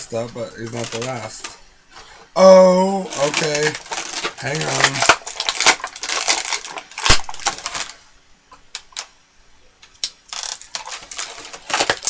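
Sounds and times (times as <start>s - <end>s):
plastic packaging crinkling: 0.0s - 9.1s, 10.0s - 12.0s.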